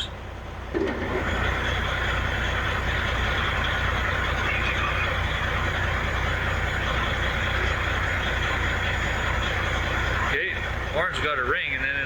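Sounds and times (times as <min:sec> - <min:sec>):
heavy diesel engines rumbling: 0:00.0 - 0:12.0.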